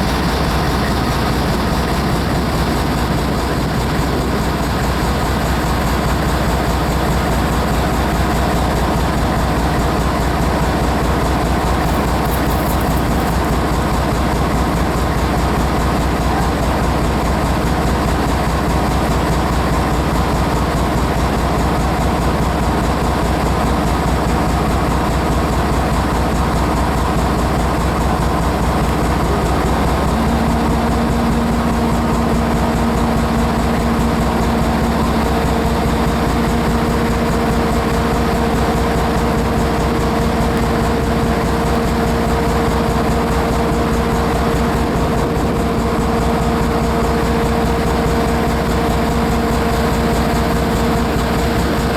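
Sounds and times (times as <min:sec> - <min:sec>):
diesel locomotive idling: 0:00.0 - 0:51.9.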